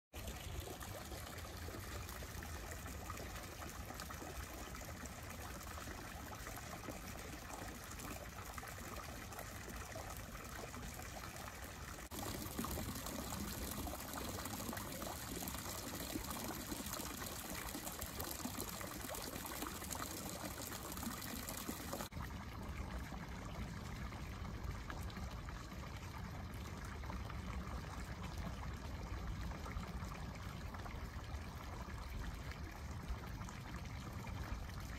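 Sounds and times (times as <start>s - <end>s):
water trickling into a pond: 0.1s - 34.9s.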